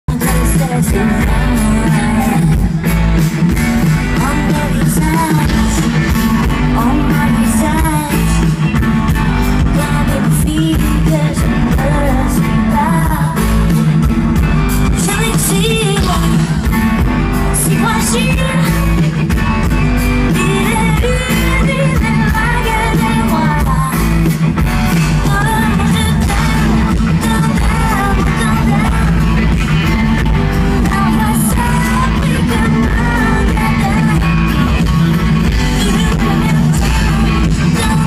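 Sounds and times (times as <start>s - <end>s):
live band playing: 0.0s - 38.0s
woman singing: 0.1s - 3.0s, 4.0s - 14.1s, 14.8s - 19.1s, 20.2s - 24.4s, 25.0s - 38.0s.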